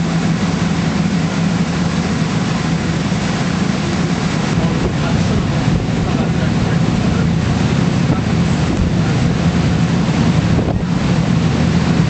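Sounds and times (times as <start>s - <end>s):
boat engine drone: 0.0s - 12.0s
rushing water: 0.0s - 12.0s
wind buffeting microphone: 0.0s - 12.0s.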